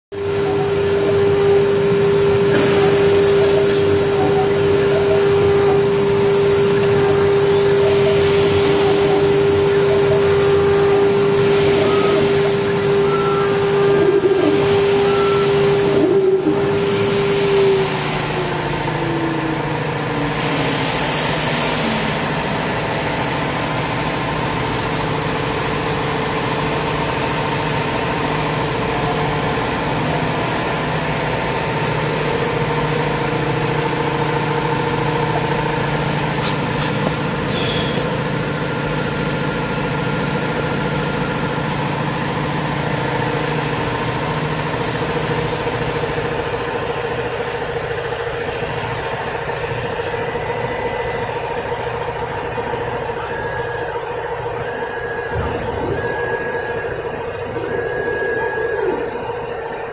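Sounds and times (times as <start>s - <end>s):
cnc router humming: 0.1s - 59.9s.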